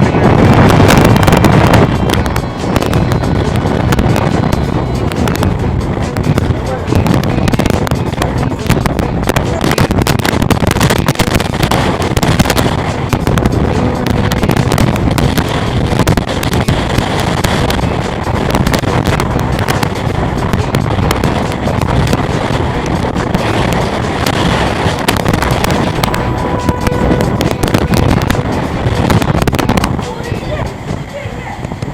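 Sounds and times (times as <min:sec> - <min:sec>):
driving rain: 0:00.0 - 0:31.9
storm wind rushing: 0:00.0 - 0:31.9
wind buffeting microphone: 0:00.0 - 0:31.9.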